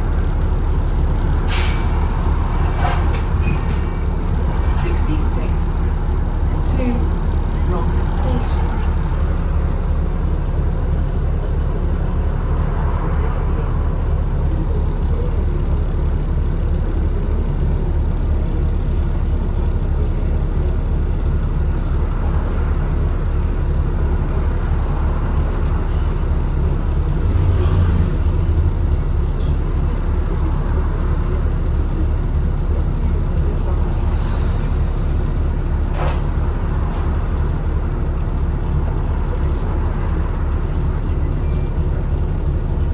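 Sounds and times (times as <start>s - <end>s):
bus engine drone: 0.0s - 42.9s
high whine: 0.0s - 42.9s.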